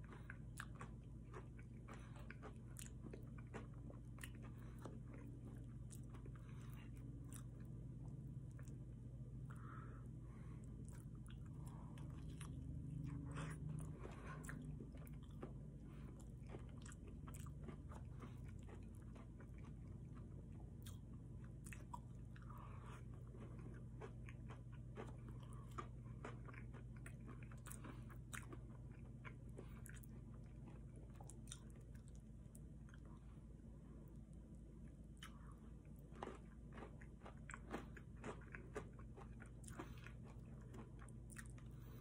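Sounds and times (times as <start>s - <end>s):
faint low hum: 0.0s - 42.0s
man chewing food: 0.0s - 42.0s.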